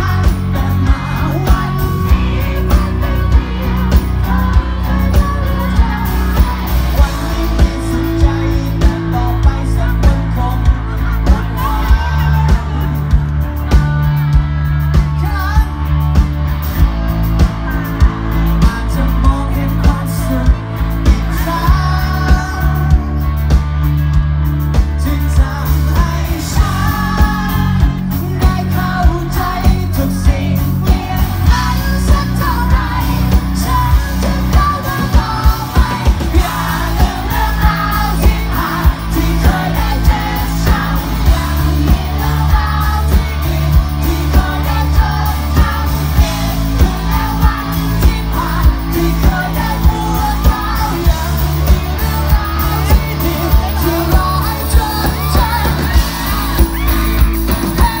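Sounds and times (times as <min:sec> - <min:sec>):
man singing: 0:00.0 - 0:16.2, 0:17.6 - 0:23.6, 0:24.6 - 0:58.0
electric guitar: 0:00.0 - 0:58.0
live rock band: 0:00.0 - 0:58.0
steady drum beat: 0:00.0 - 0:58.0.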